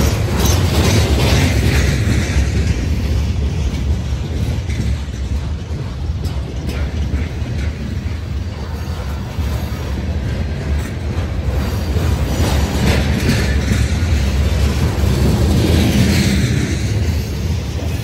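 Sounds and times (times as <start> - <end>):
train wheels rumbling on rail: 0.0 - 18.0
wheels clicking over rail joints: 0.0 - 18.0.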